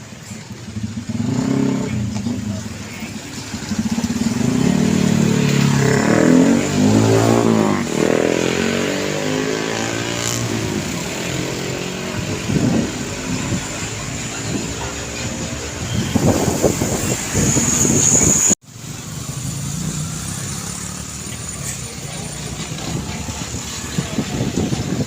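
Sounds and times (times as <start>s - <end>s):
passing vehicles: 0.0s - 25.0s
vehicle engine passing by: 0.3s - 25.0s.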